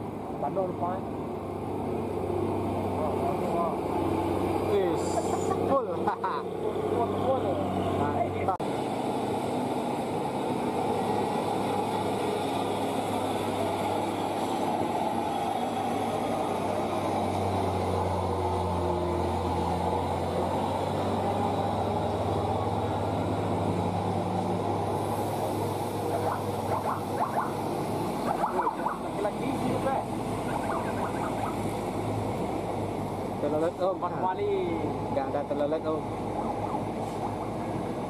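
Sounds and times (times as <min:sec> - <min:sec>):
heavy diesel engines droning: 0:00.0 - 0:38.0.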